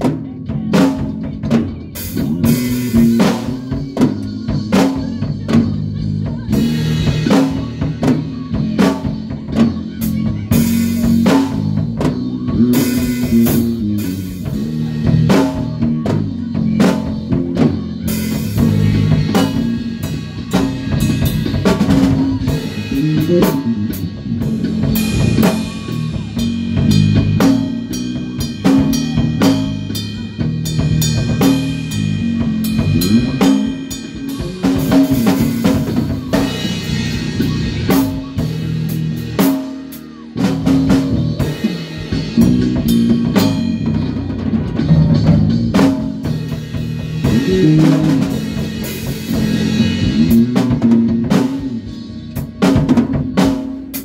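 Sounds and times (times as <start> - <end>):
band playing: 0.0 - 54.0
bass line: 0.0 - 54.0
drum kit beat: 0.0 - 54.0.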